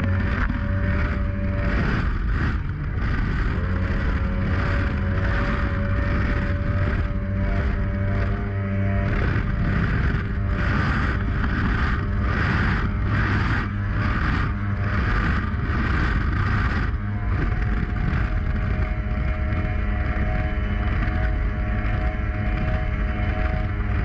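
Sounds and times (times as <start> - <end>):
boat engine drone: 0.0 - 24.0
rushing wind and water: 0.0 - 24.0.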